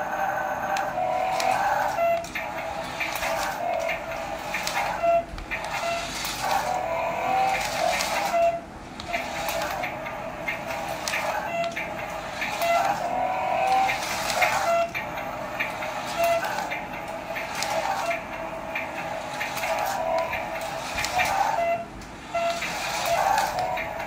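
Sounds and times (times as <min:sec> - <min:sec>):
toy car whirring: 0:00.7 - 0:24.0.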